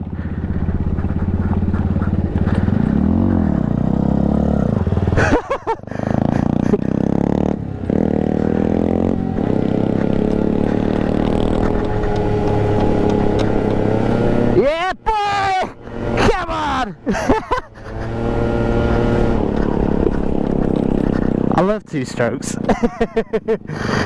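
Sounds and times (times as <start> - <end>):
motor scooter engine running: 0.0 - 24.0.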